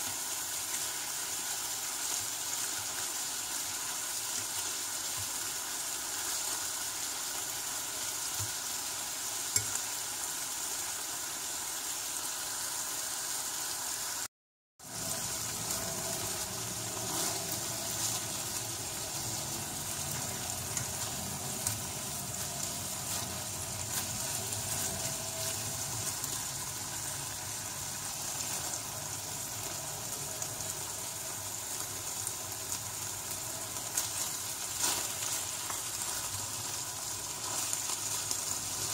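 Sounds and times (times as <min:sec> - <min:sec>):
sausages sizzling in oil: 0:00.0 - 0:38.9.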